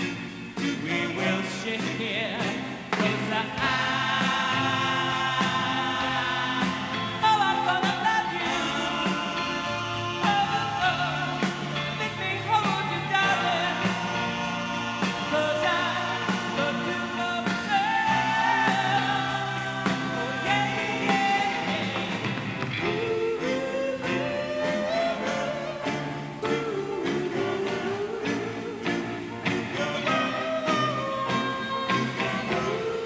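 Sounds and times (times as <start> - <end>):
lead singer singing: 0.0 - 33.0
rock band playing: 0.0 - 33.0.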